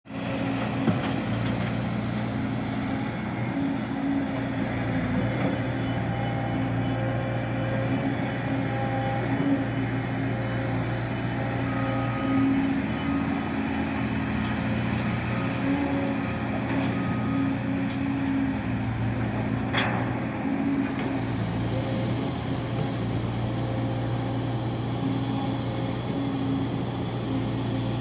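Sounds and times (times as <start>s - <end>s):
construction machinery engine droning: 0.1s - 28.0s.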